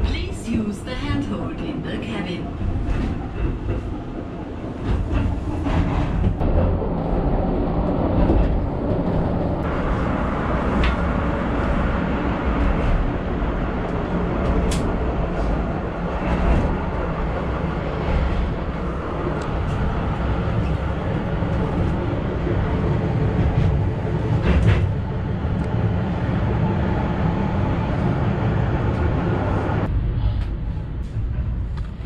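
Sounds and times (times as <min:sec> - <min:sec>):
funicular car rumbling on track: 0:00.0 - 0:32.0.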